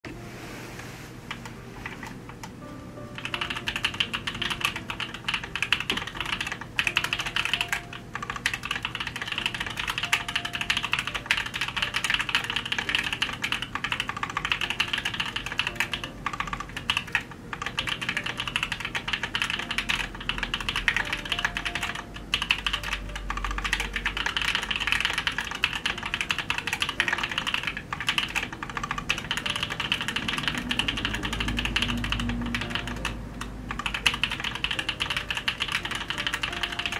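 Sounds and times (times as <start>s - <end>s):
mechanical keyboard typing: 1.3s - 2.6s, 3.2s - 36.9s.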